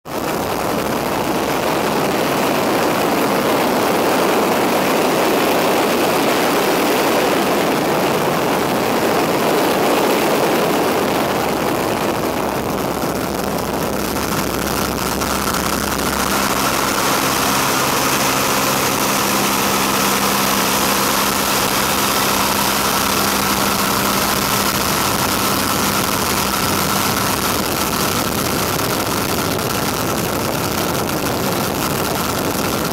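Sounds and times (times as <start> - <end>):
plane engine running: 0.1 - 32.9
wind rushing in cockpit: 0.1 - 32.9.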